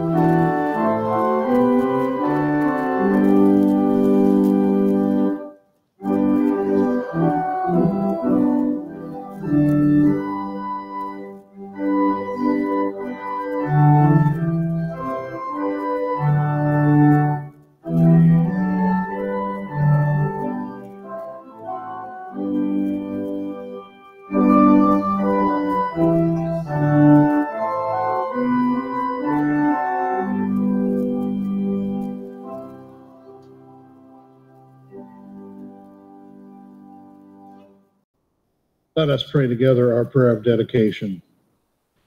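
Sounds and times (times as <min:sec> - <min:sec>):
organ playing hymn chords: 0:00.0 - 0:37.9.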